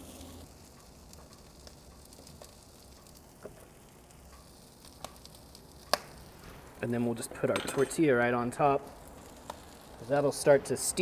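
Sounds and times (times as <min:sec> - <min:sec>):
small crackles: 0:00.0 - 0:10.9
food sizzling on a griddle: 0:00.0 - 0:11.0.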